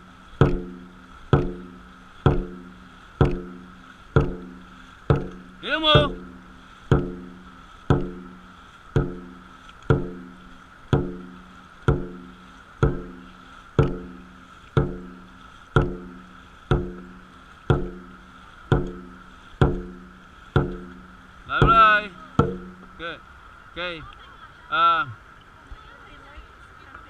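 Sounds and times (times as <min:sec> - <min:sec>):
drum beating steadily: 0:00.0 - 0:23.2.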